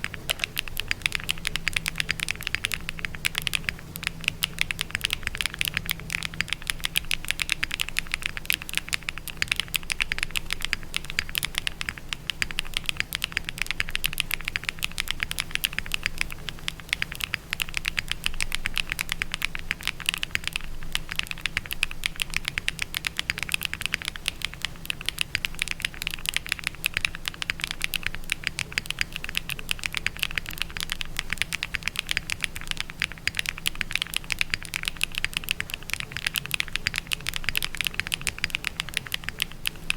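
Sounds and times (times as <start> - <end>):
faint low hum: 0.0 - 39.9
mechanical keyboard typing: 0.0 - 39.9.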